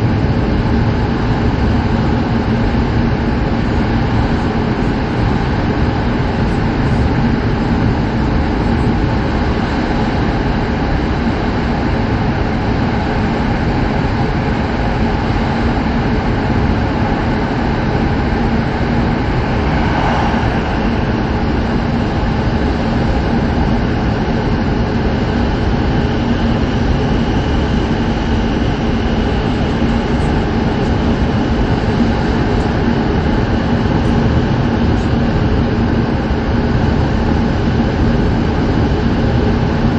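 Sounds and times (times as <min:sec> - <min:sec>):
steady low hum: 0:00.0 - 0:39.9
train cabin rush and rumble: 0:00.0 - 0:39.9.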